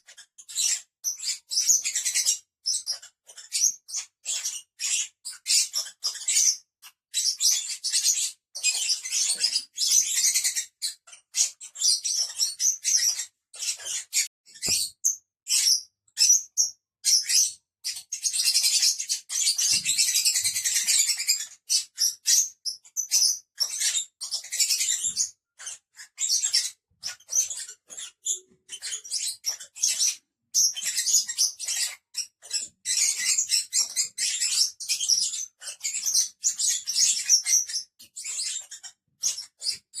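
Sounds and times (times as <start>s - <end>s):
birds chattering shrill chirps: 0.0s - 40.0s.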